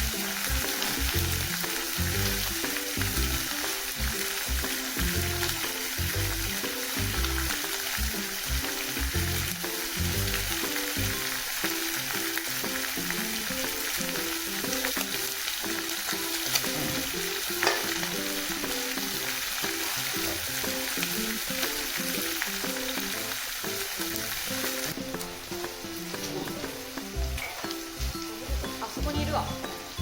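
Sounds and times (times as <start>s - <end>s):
food sizzling and crackling: 0.0s - 30.0s
simple stepped melody music: 0.0s - 30.0s.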